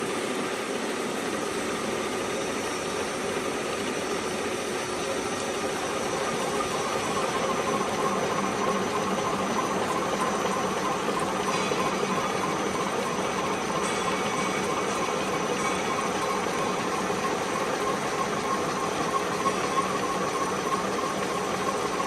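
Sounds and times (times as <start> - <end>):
high machine whine: 0.0 - 22.0
milling machine running: 0.0 - 22.0.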